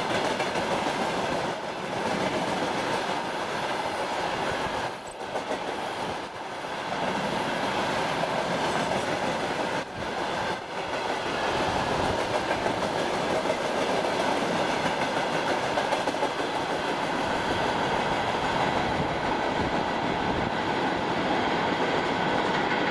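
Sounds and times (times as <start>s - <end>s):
train wheels rolling on rails: 0.0s - 22.9s.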